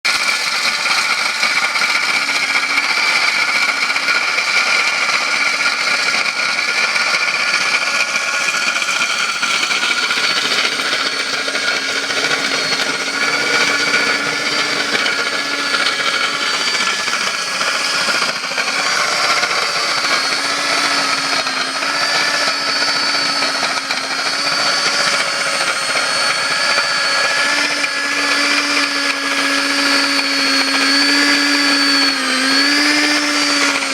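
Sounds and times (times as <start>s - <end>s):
core drill motor whine: 0.0s - 33.9s
vacuum cleaner: 0.0s - 33.9s.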